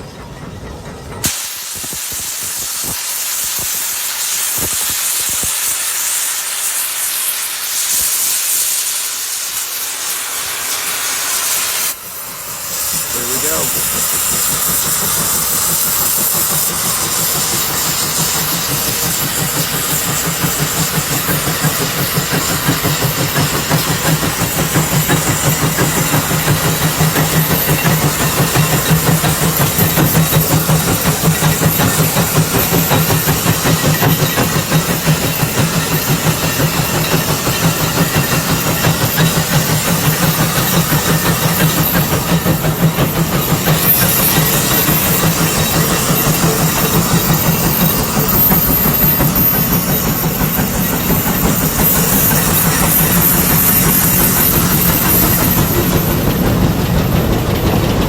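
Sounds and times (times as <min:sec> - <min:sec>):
steam engine exhaust chuffing: 0:00.0 - 0:58.0
steam hissing: 0:01.0 - 0:58.0.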